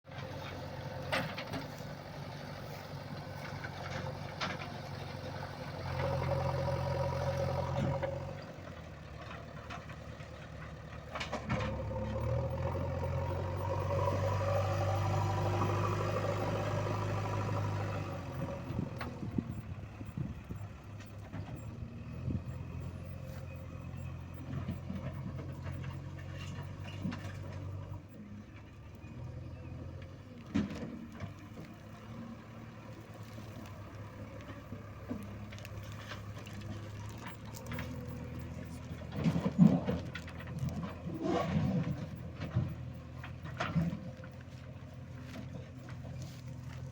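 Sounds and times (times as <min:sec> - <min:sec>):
diesel engine revving under load: 0:00.0 - 0:46.9.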